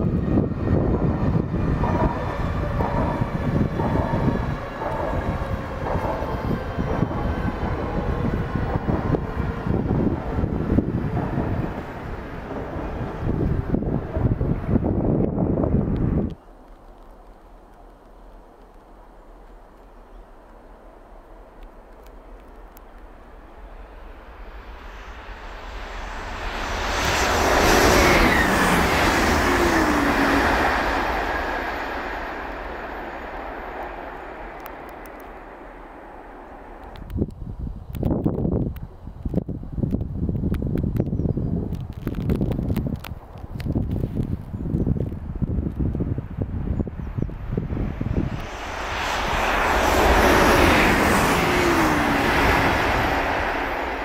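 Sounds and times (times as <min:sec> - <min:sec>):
electric train passing: 0:00.0 - 0:40.6, 0:41.7 - 0:54.0
train humming tone: 0:00.0 - 0:41.1, 0:41.7 - 0:54.0.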